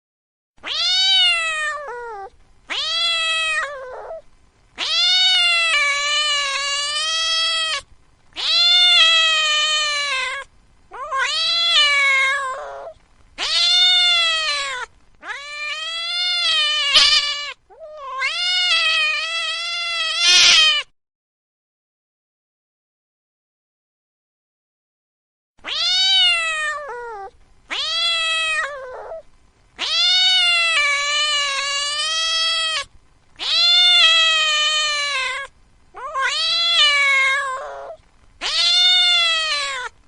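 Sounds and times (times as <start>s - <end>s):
cat meowing: 0.6s - 4.2s, 4.8s - 20.9s, 25.6s - 29.2s, 29.8s - 40.0s.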